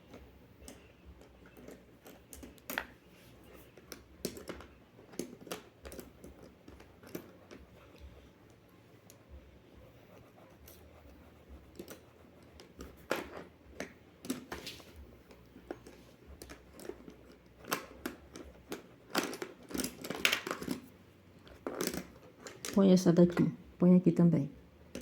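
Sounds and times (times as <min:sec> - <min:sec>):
pencils clicking on a tabletop: 0:00.0 - 0:09.2, 0:11.4 - 0:23.4.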